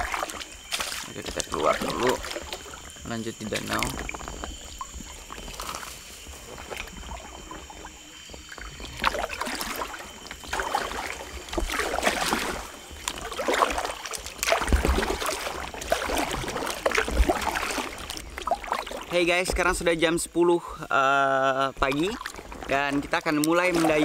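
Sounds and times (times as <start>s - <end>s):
kayak paddle splashing in water: 0.0s - 20.0s, 21.8s - 24.0s.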